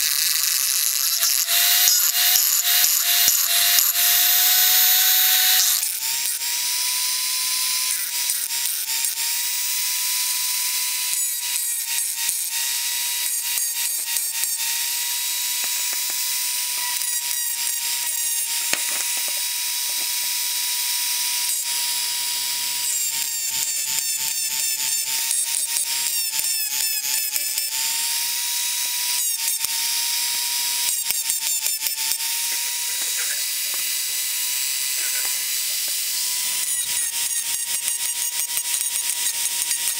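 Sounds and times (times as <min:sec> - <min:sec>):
grinding stone rasping on metal: 0:00.0 - 0:39.9
rotary tool high whine: 0:00.0 - 0:39.9.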